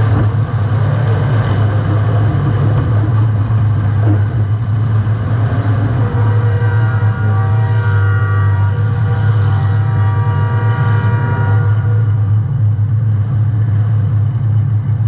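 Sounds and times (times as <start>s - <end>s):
car engine running loud: 0.0s - 15.0s.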